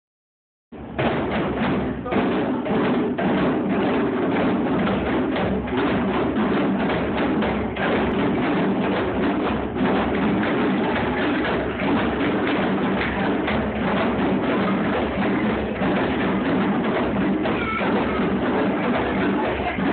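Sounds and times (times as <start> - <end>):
djembe hand drums: 0.8 - 19.9.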